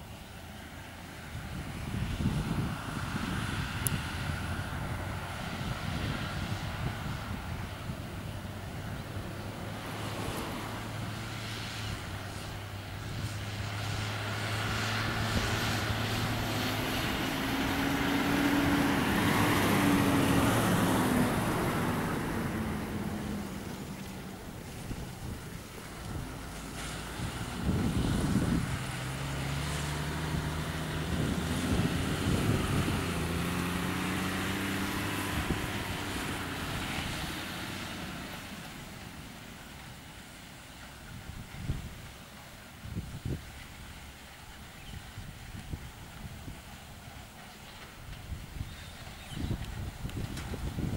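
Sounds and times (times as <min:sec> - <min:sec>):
diesel machinery humming: 0:00.1 - 0:50.9
rushing noise of chopping and fan: 0:01.2 - 0:38.8, 0:44.8 - 0:50.9.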